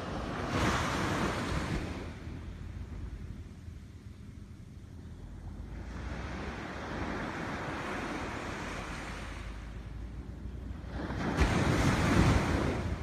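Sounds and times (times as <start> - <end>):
waves breaking on beach: 0.0 - 3.0, 5.5 - 13.0.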